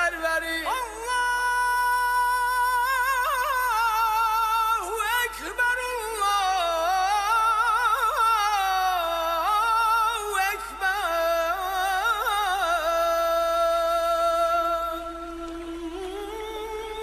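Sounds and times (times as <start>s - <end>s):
solo voice singing: 0.0s - 17.0s.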